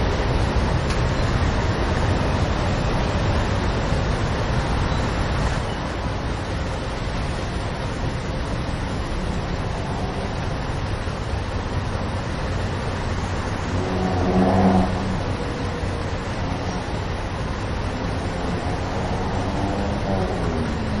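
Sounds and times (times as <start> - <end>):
loud vehicle engine: 0.0 - 21.0
traffic rumble: 0.0 - 21.0.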